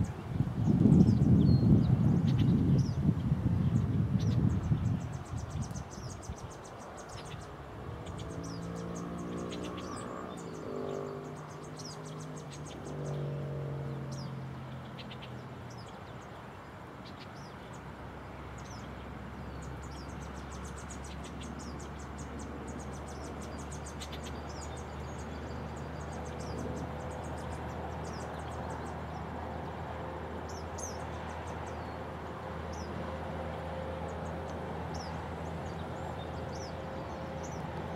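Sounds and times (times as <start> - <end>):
distant engine hum: 0.0 - 37.9.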